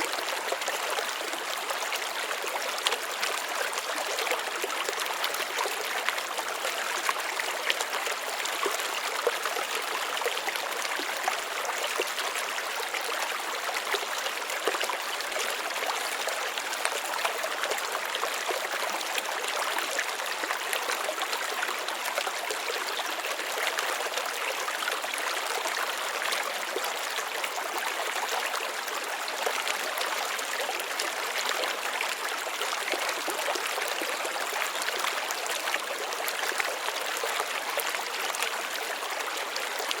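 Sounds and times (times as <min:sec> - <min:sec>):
water trickling over rocks: 0:00.0 - 0:40.0.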